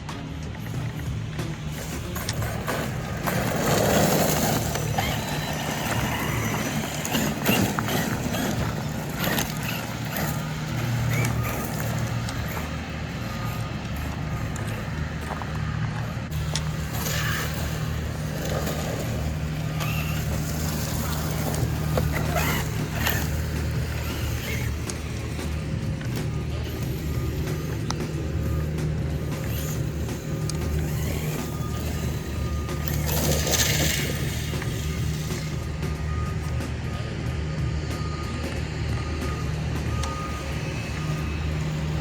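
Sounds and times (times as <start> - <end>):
toy truck drivetrain hum: 0.0 - 42.0.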